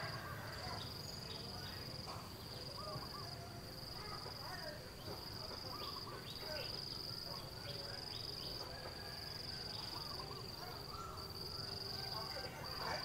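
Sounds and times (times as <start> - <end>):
cricket trilling: 0.0 - 13.0
faint chirping calls: 0.0 - 13.0.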